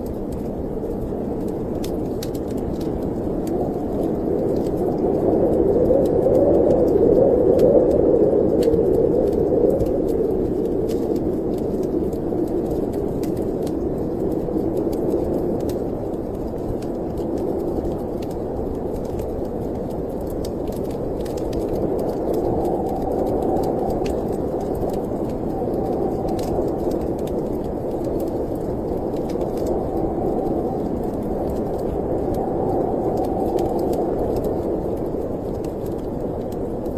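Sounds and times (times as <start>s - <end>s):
storm wind blowing: 0.0s - 36.9s
wood fire crackling: 0.0s - 36.9s.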